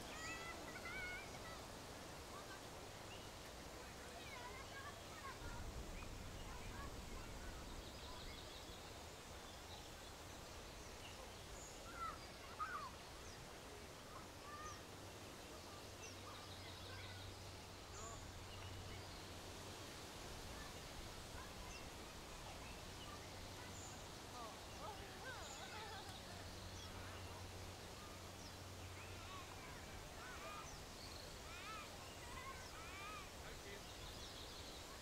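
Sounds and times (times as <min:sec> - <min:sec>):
faint background hiss: 0:00.0 - 0:35.0.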